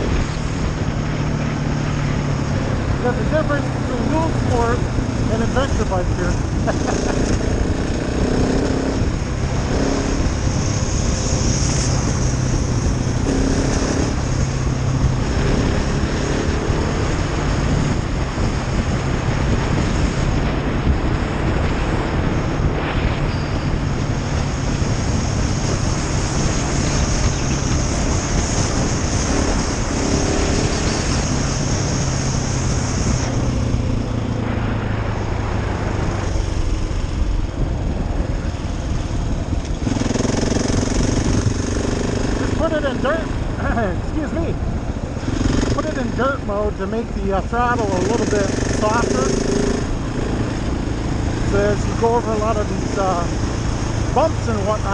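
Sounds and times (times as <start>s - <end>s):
wind and road noise: 0.0s - 54.9s
motorcycle engine pulling: 2.4s - 34.4s, 35.8s - 54.9s.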